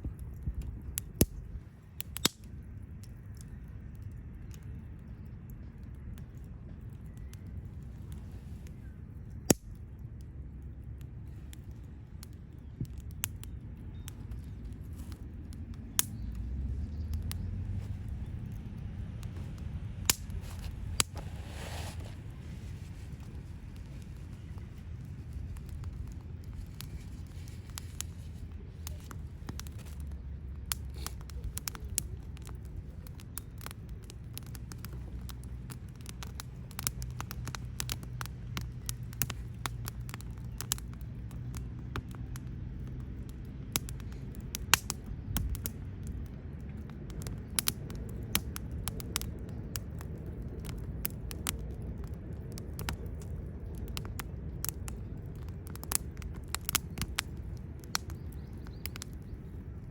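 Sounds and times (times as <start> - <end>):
campfire crackling and popping: 0.0 - 59.9
low steady rumble: 0.0 - 59.9.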